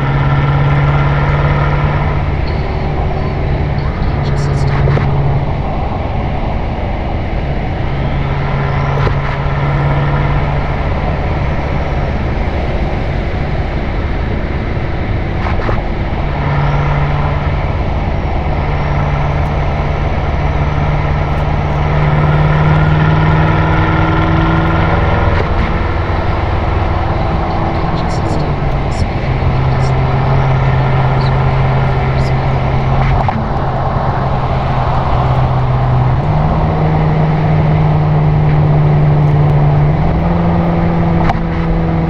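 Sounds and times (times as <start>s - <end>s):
car engine droning: 0.0s - 42.0s
wind noise: 0.0s - 42.0s.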